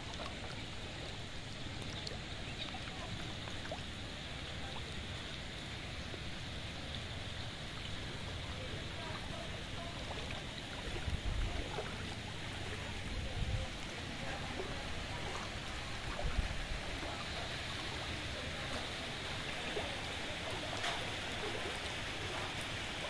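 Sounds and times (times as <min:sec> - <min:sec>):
rain falling on water: 0:00.0 - 0:23.0.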